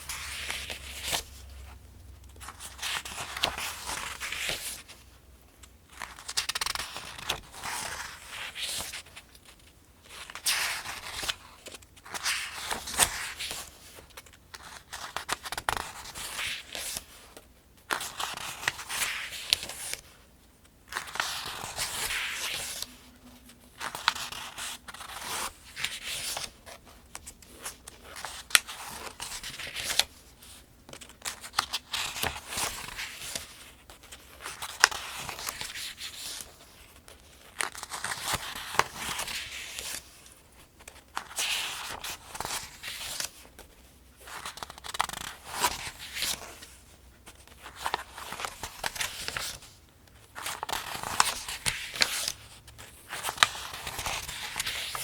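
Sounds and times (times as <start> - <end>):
paper pages being turned: 0.0 - 5.0, 5.6 - 20.2, 20.9 - 55.0.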